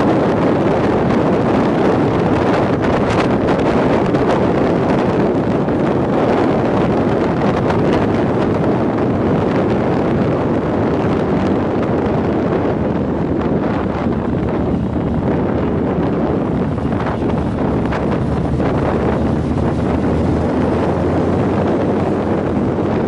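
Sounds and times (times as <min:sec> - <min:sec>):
motorcycle engine: 0:00.0 - 0:23.0
traffic noise: 0:00.0 - 0:23.0
wind rushing over microphone: 0:00.0 - 0:23.0.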